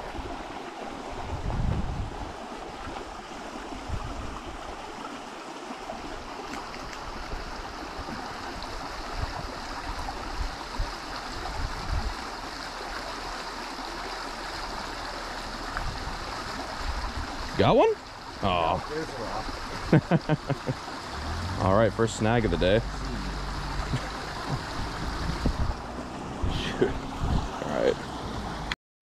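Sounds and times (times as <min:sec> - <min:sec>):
stream rushing over boulders: 0:00.0 - 0:28.8.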